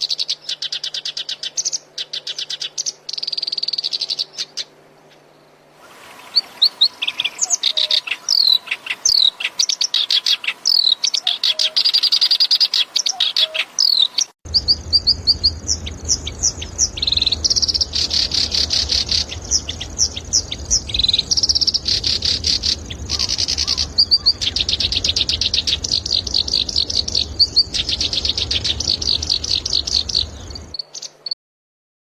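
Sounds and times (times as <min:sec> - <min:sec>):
warbler singing: 0:00.0 - 0:31.4.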